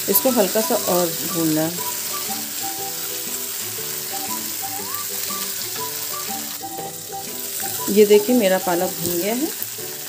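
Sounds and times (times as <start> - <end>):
soft instrumental music: 0.0 - 10.0
spinach sizzling in a pan: 0.0 - 10.0.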